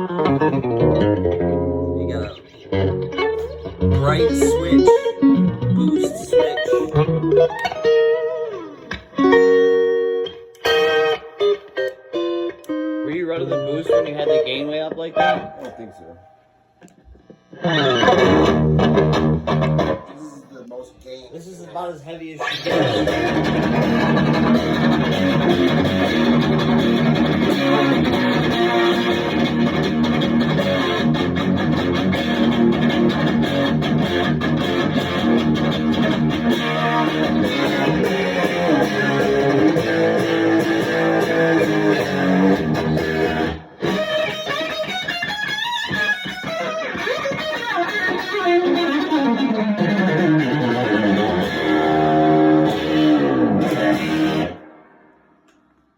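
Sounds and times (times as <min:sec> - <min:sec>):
overdriven electric guitar: 0:00.0 - 0:20.3, 0:22.4 - 0:55.9.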